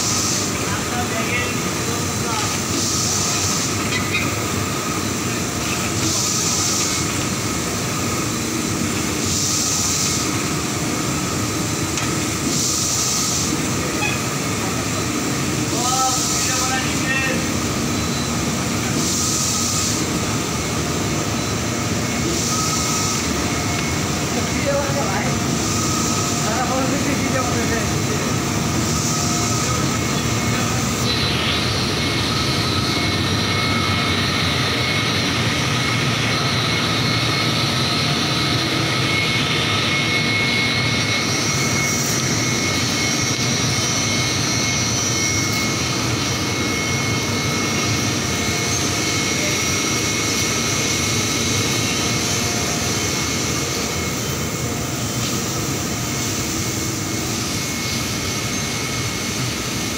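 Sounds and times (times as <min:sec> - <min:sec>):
high-pitched machine whine: 0:00.0 - 0:59.9
industrial machinery running: 0:00.0 - 0:59.9.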